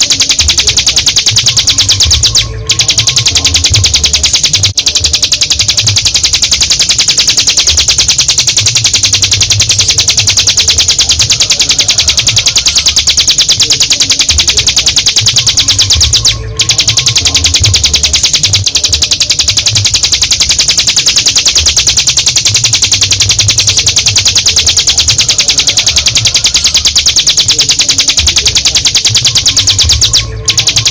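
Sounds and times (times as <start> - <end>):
bird singing fast trill: 0.0 - 30.9.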